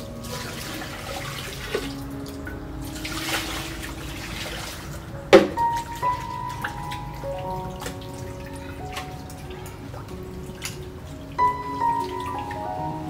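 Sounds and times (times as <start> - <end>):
water splashing into steel basin: 0.0 - 12.7.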